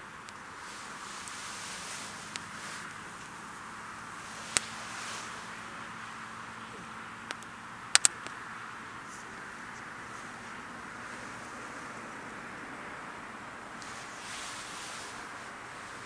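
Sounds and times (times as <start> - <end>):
campfire crackling and popping: 0.0 - 16.0
steady rushing hiss: 0.0 - 16.0.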